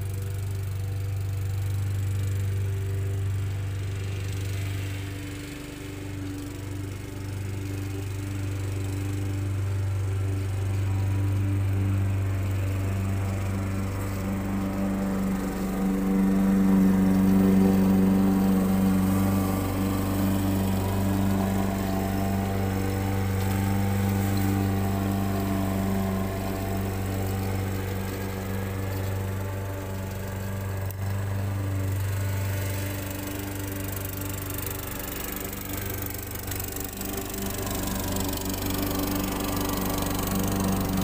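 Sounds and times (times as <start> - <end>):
lawn mower engine running: 0.0 - 41.0.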